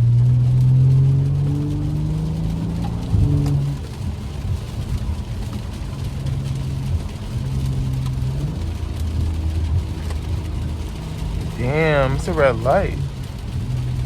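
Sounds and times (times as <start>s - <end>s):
car engine drone from inside: 0.0s - 14.0s.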